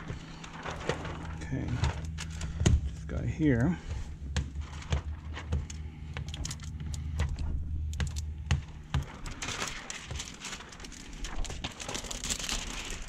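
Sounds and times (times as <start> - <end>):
plastic film crinkling: 0.0 - 3.1, 4.5 - 13.0.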